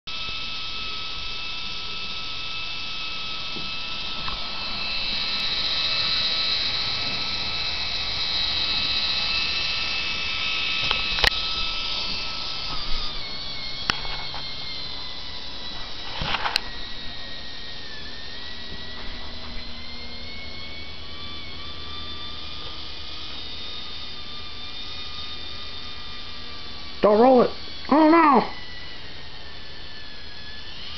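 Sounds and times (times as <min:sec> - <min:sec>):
toy motor high whine: 0:00.1 - 0:30.9.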